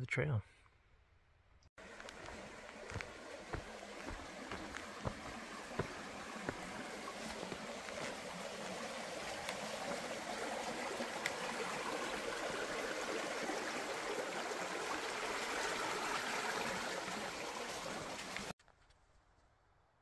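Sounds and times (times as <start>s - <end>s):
creek water running: 1.8s - 18.5s.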